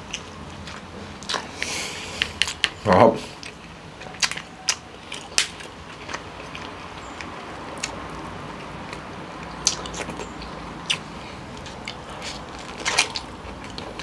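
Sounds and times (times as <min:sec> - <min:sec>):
soft crunching: 0:00.0 - 0:14.0.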